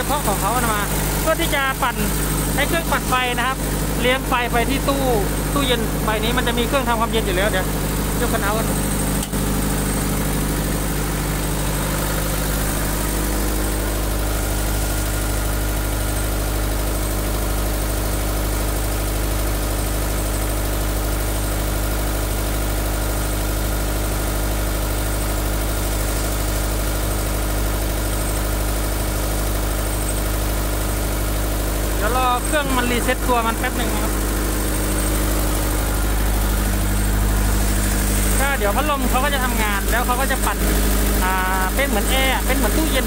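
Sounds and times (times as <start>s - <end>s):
diesel generator humming: 0.0s - 43.0s.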